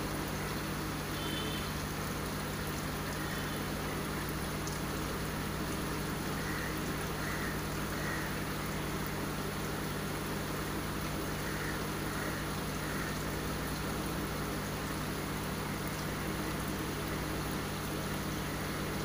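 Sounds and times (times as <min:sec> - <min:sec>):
aquarium pumps humming: 0:00.0 - 0:19.0
running water: 0:00.0 - 0:19.0.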